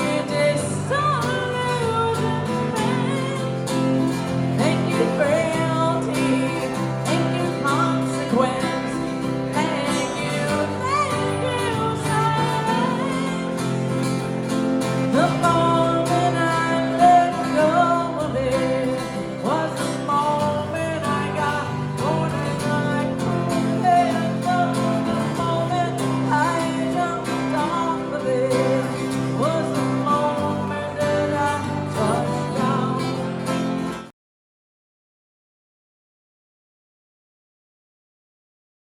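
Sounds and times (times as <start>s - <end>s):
guitar chord pattern: 0.0s - 34.1s
guitar lead melody: 0.0s - 34.1s.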